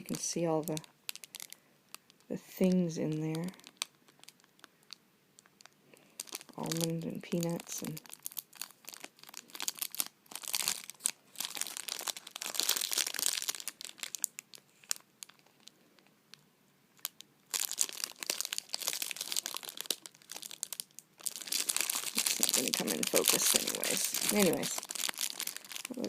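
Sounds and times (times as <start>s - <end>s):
plastic wrapper crinkling: 0.0s - 26.0s.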